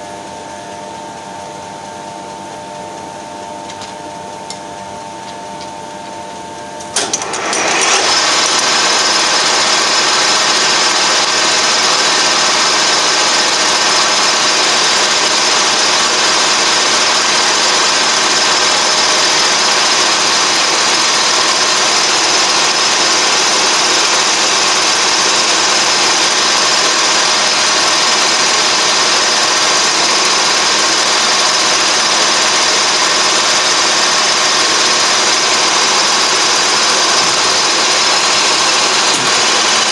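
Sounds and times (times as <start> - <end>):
lathe running with gear whine: 6.8 - 39.9
lathe spindle clunk: 6.9 - 39.9.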